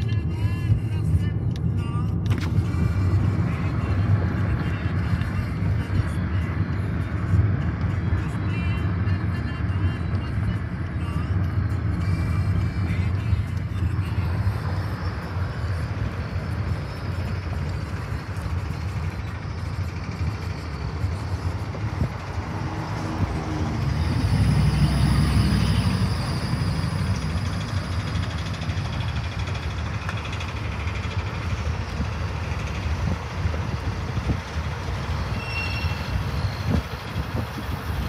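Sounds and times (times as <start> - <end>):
road and wind noise in car: 0.0 - 38.0.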